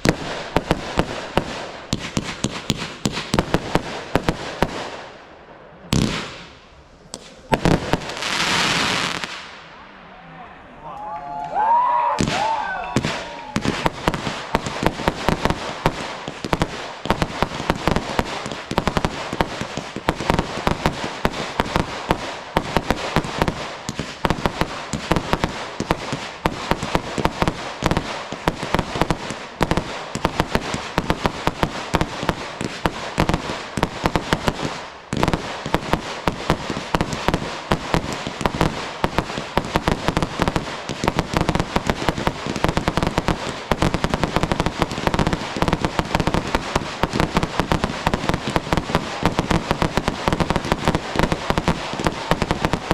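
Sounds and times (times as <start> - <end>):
fireworks bangs and crackling: 0.0 - 9.8, 11.6 - 52.9.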